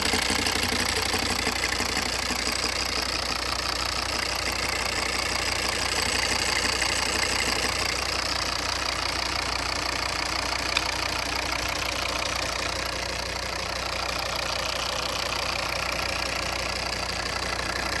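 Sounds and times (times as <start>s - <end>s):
diesel engine knocking: 0.0s - 18.0s.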